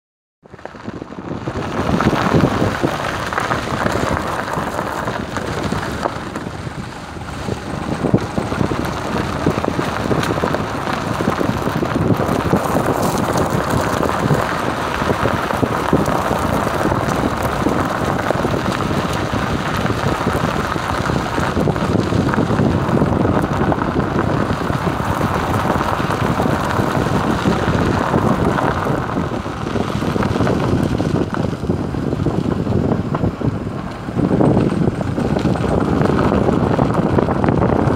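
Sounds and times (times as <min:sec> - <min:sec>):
car engine and tyre noise: 0:00.4 - 0:37.9
wind rushing over microphone: 0:00.4 - 0:37.9.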